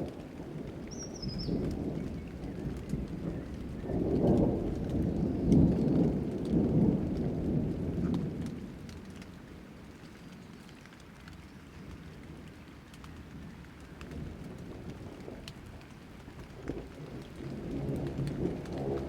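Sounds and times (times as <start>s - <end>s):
low rumble of thunder: 0.0s - 19.0s
rain falling: 0.0s - 19.0s.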